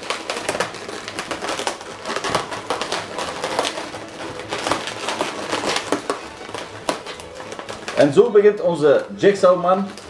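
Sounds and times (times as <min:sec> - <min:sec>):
balloons squeaking and creaking: 0:00.0 - 0:10.0.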